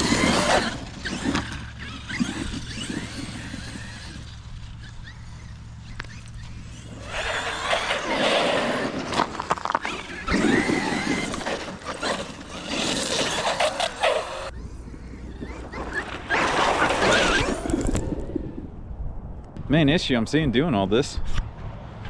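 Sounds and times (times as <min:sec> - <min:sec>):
electric toy car motor whining: 0:00.0 - 0:18.6.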